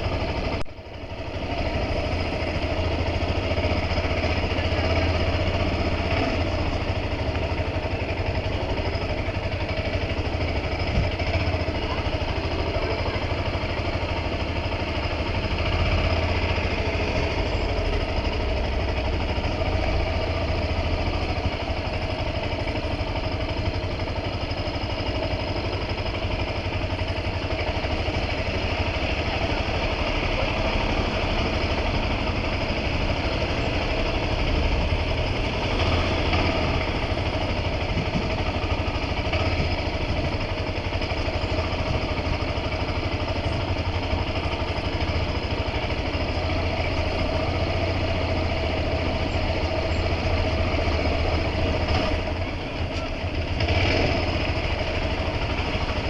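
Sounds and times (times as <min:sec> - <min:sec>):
road noise: 0:00.0 - 0:56.0
vehicle engine rumble: 0:00.0 - 0:56.0.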